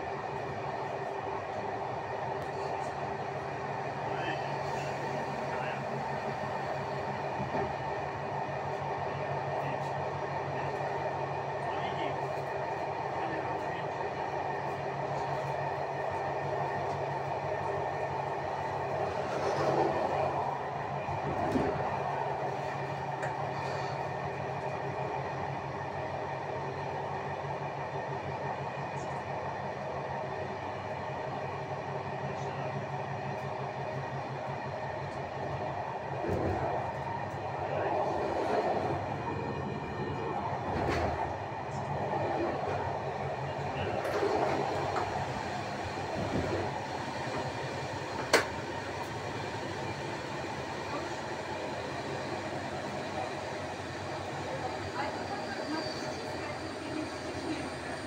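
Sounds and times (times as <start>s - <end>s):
train rolling on rails: 0.0s - 58.0s.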